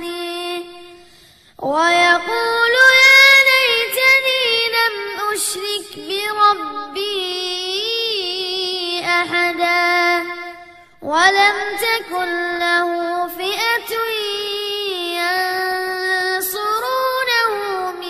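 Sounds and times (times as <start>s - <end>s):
boy reciting melodically: 0.0s - 18.0s.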